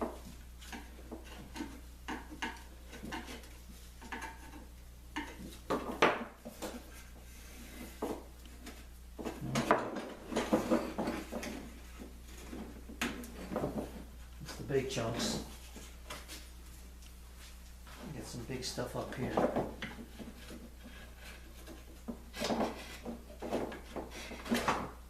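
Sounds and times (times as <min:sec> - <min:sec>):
hand tool scraping wood: 0:00.0 - 0:16.5, 0:18.0 - 0:24.8
low steady hum: 0:00.0 - 0:25.0.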